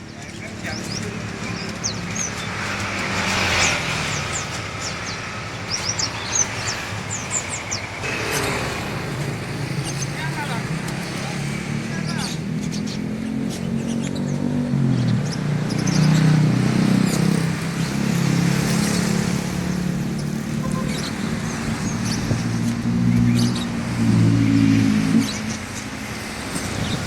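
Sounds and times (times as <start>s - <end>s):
caged birds chirping: 0.0s - 27.0s
road traffic engines: 0.0s - 27.0s.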